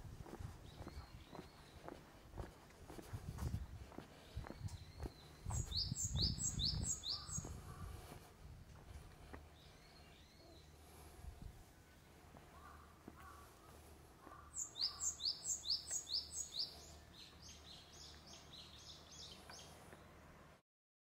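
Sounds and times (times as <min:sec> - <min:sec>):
low outdoor background: 0:00.0 - 0:20.6.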